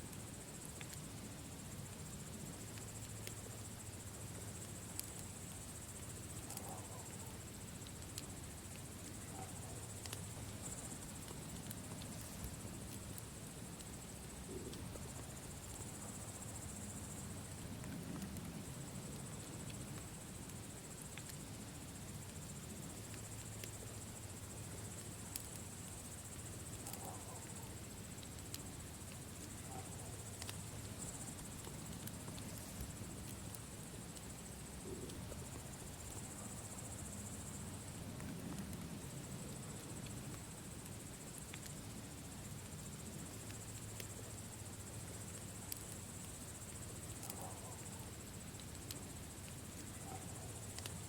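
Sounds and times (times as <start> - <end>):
crickets chirping: 0.0 - 51.0
low steady hiss: 0.0 - 51.0
campfire crackling and popping: 0.1 - 51.0.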